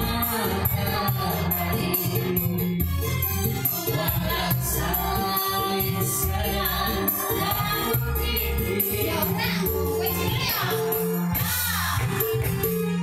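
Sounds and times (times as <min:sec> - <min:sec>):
woman singing into microphone: 0:00.0 - 0:12.9
electronic keyboard with beat: 0:00.0 - 0:13.0.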